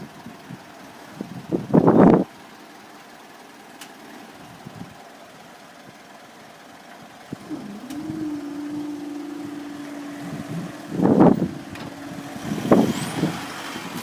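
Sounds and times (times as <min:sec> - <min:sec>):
vehicle engines humming: 0:00.0 - 0:14.0.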